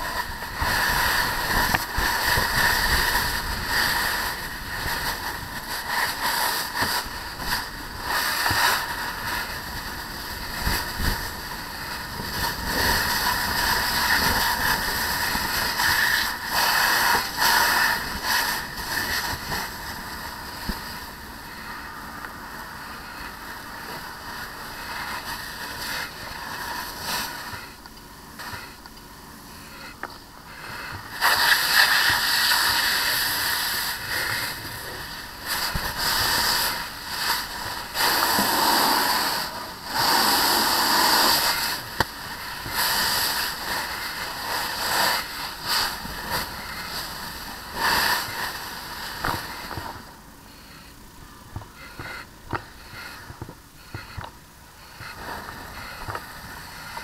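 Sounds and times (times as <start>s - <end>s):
steam hissing: 0.0s - 28.8s, 30.4s - 51.1s
fire hose spraying water: 0.0s - 29.5s, 30.4s - 50.9s.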